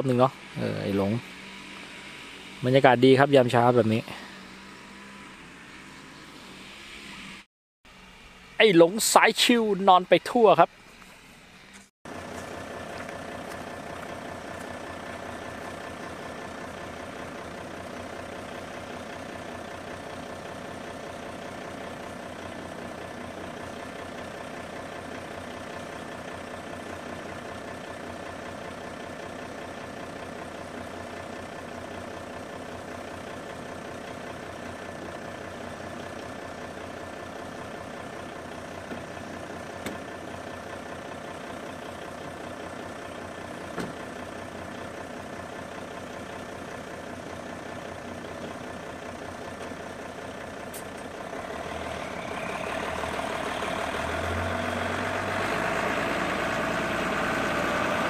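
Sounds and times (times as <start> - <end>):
truck engine droning: 0.0 - 58.0.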